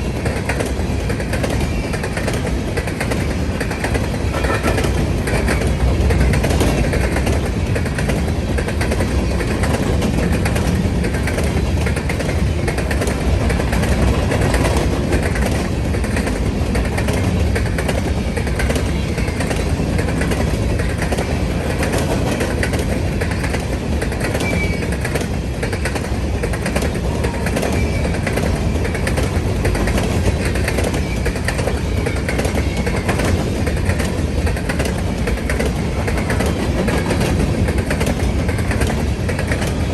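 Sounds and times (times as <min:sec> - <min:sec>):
train rumbling past: 0:00.0 - 0:39.9
wheels clicking over rail joints: 0:00.0 - 0:39.9.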